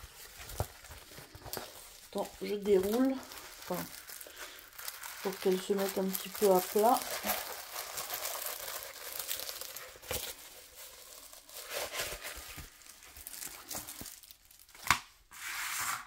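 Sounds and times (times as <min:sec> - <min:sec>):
plastic film crinkling: 0:00.0 - 0:15.3.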